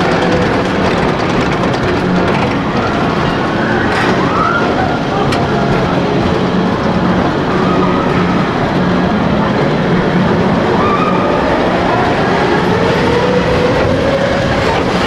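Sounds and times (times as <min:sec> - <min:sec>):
train running along track: 0:00.0 - 0:15.0.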